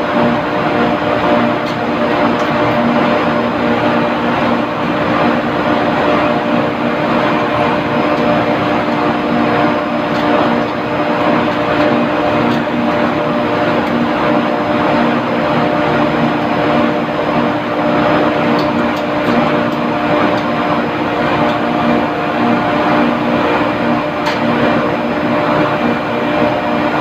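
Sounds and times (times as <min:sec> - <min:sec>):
industrial machinery drone: 0:00.0 - 0:27.0.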